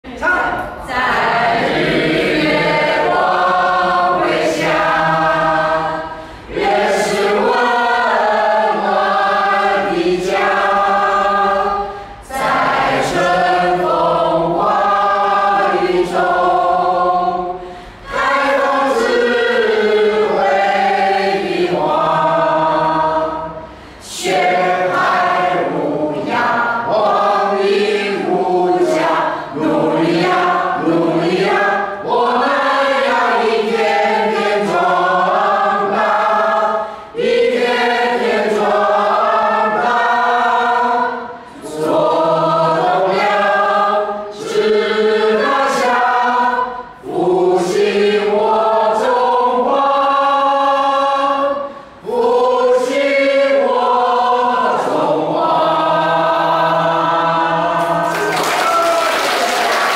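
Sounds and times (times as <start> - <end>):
group singing together: 0.0 - 59.9.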